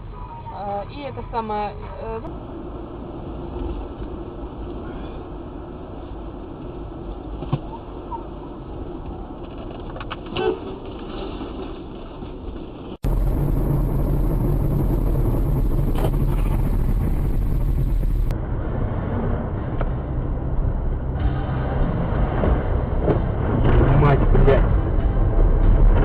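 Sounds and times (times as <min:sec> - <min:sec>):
vehicle road and engine noise: 0:00.0 - 0:26.0.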